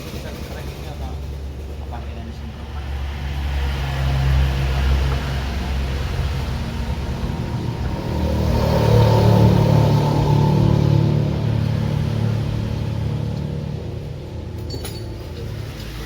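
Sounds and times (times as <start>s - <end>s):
engine rumble: 0.0s - 16.0s.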